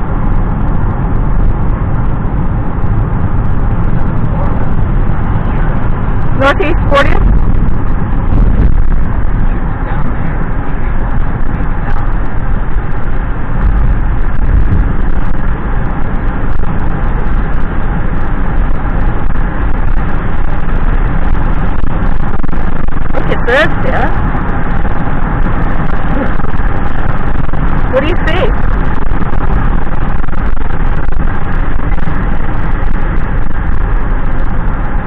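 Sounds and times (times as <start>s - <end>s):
car road noise rumble: 0.0s - 35.0s.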